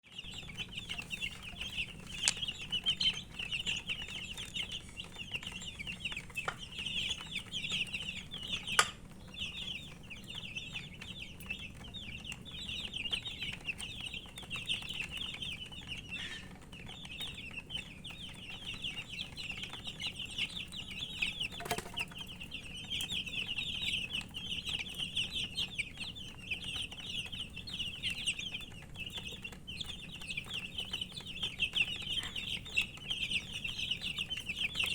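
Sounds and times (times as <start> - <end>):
baby chicks peeping: 0.0 - 34.9.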